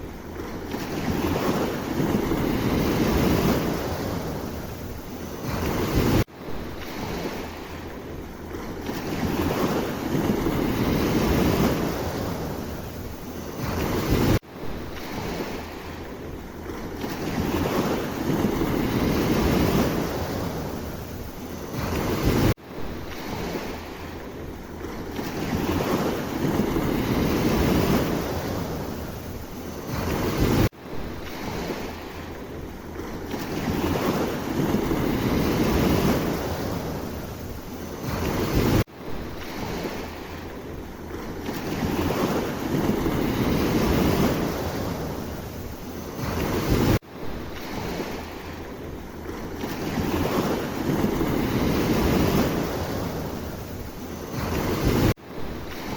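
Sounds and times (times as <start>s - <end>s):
sea waves washing ashore: 0.0s - 55.9s
wind on microphone: 0.0s - 55.9s.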